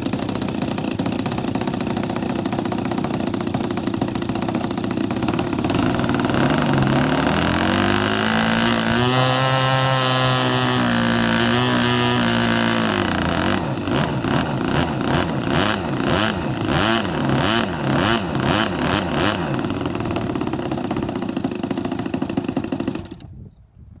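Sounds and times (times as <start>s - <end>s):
model airplane engine running: 0.0s - 23.3s.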